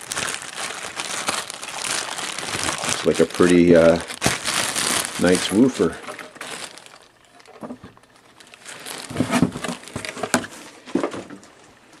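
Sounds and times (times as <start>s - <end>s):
cardboard rustling: 0.0s - 11.5s
plastic wrapping crinkling: 0.0s - 11.6s.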